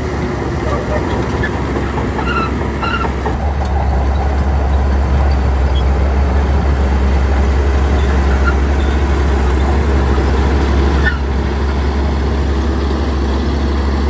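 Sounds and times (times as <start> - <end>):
heavy diesel engine under load: 0.0 - 14.0.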